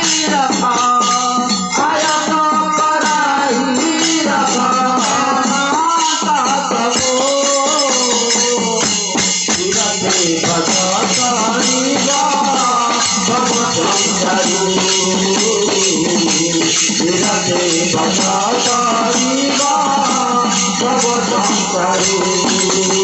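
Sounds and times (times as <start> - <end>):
hand cymbals clashing and jingling: 0.0 - 23.0.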